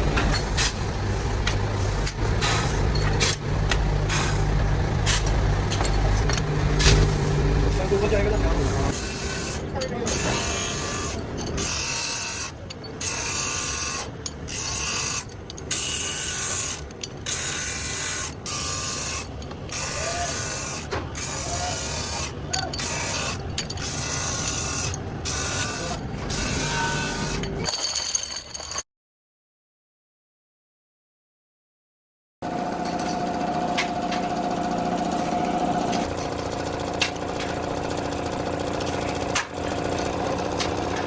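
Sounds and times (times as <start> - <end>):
factory machinery rattling: 0.0 - 27.7, 32.4 - 41.0.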